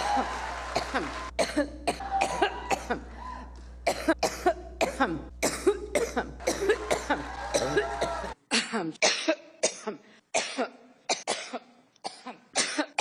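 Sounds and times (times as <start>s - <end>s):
woman coughing: 0.8s - 3.0s, 3.9s - 13.0s.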